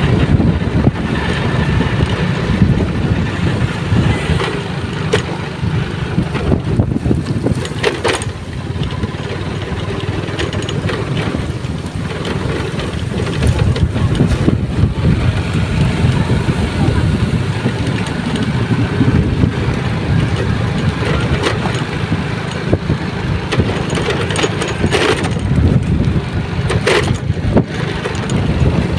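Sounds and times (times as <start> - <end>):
sharp clatters: 0.0 - 28.9
wind buffeting microphone: 0.0 - 28.9.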